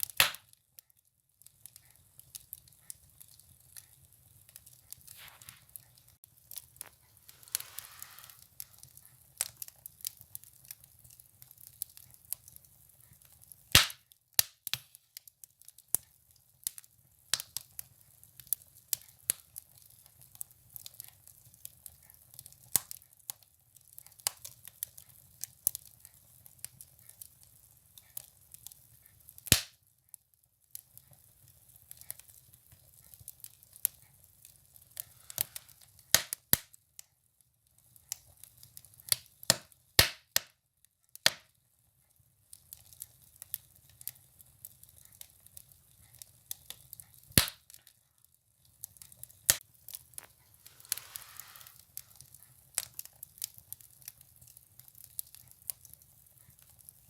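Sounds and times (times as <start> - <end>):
firewood crackling in a stove: 0.0 - 57.0.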